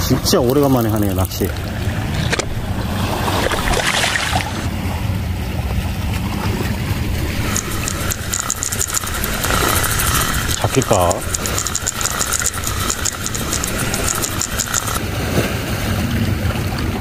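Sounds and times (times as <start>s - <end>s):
wind buffeting microphone: 0.2s - 17.0s
water washing against rocks: 0.4s - 4.8s, 6.3s - 16.4s.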